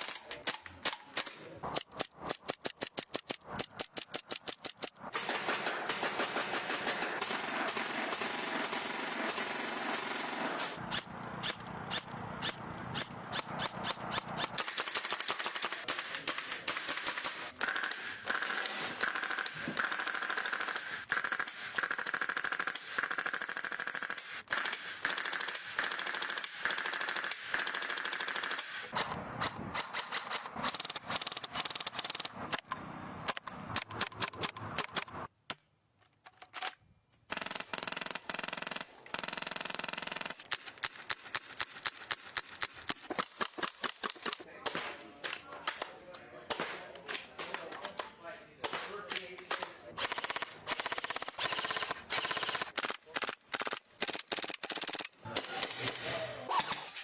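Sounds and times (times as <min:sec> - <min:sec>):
airsoft guns firing: 0:00.0 - 0:32.6, 0:37.3 - 0:57.0.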